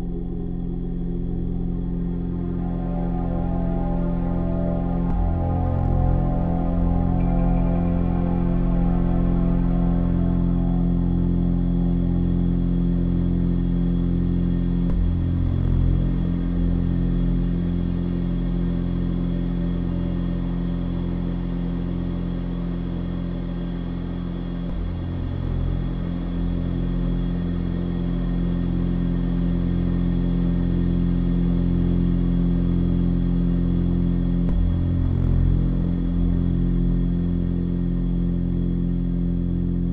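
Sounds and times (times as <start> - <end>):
ambient drone music: 0.0 - 39.9.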